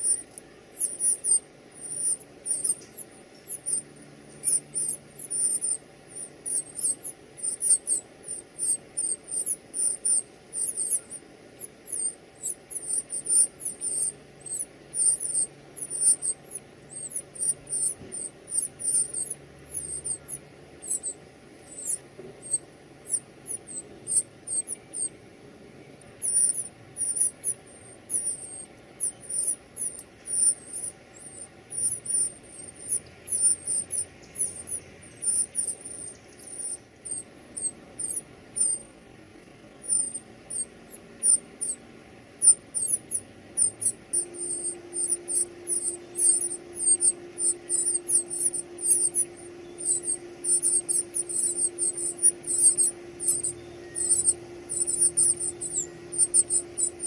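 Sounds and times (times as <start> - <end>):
nestlings begging high squeaks: 0.0 - 25.2, 26.0 - 39.0, 39.7 - 57.0.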